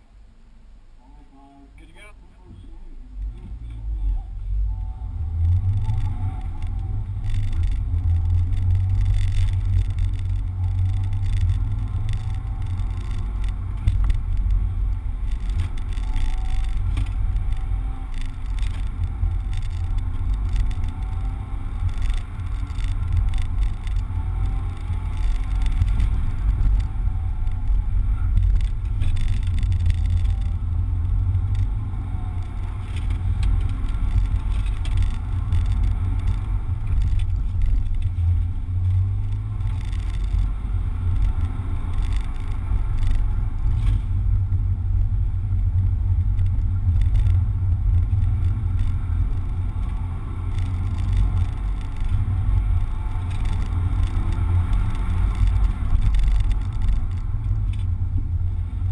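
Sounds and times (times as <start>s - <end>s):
car engine and road rumble: 0.0s - 58.9s.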